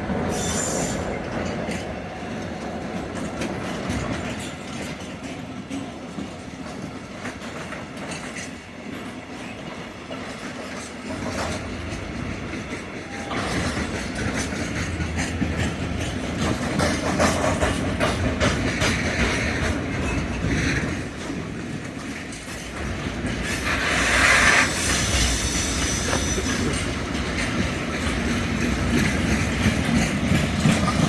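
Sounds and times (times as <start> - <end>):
railway wagons rolling: 0.0 - 31.0
wheels clicking over rail joints: 0.0 - 31.0.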